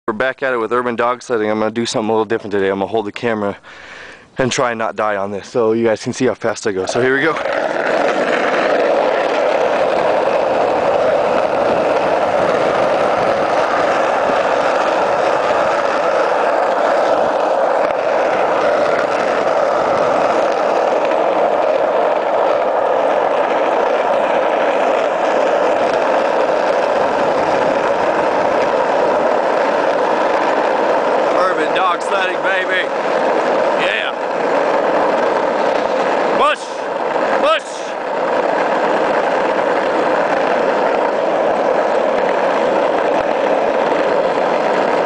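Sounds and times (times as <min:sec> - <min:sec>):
skateboard wheels rolling on asphalt: 0:00.1 - 0:45.0.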